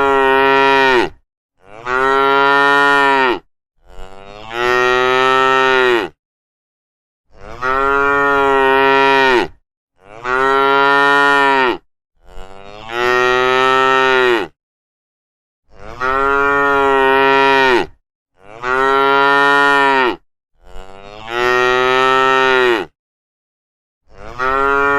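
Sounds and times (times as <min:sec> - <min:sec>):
cattle mooing: 0:00.0 - 0:06.2, 0:07.4 - 0:14.5, 0:15.7 - 0:22.9, 0:24.1 - 0:24.9.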